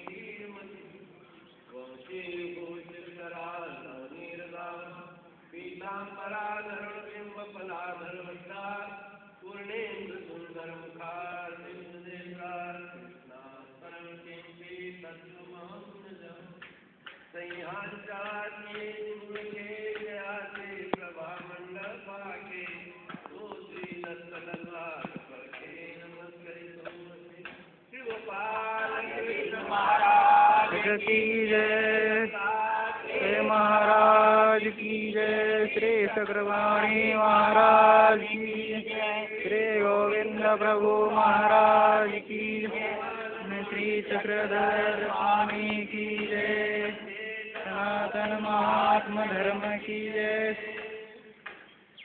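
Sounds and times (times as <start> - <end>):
group chanting a prayer: 0.0 - 51.6.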